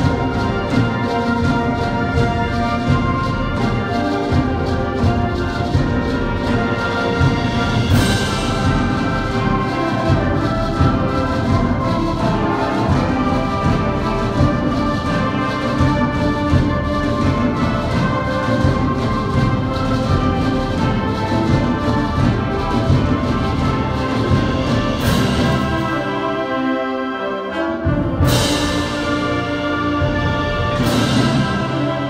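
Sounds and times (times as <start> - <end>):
concert band playing: 0.0 - 32.0
timpani: 0.0 - 32.0.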